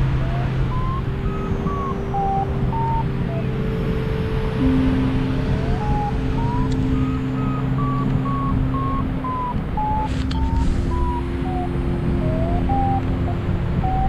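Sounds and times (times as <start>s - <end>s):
variometer beeping: 0.0s - 14.0s
wind rush on microphone: 0.0s - 14.0s.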